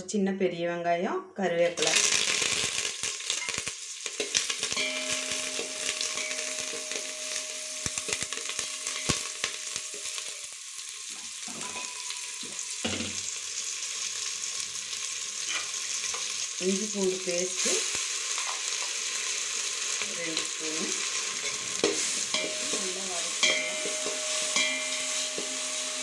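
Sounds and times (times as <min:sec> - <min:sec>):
food sizzling in hot oil: 0:01.8 - 0:26.0.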